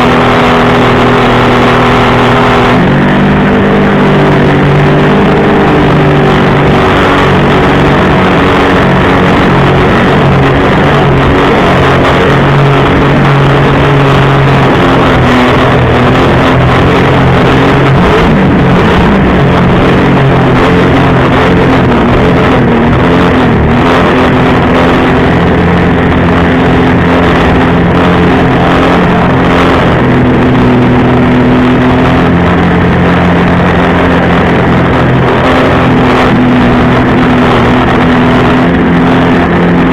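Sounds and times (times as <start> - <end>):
jet ski engine running: 0.0 - 39.9
rushing noise: 0.0 - 39.9.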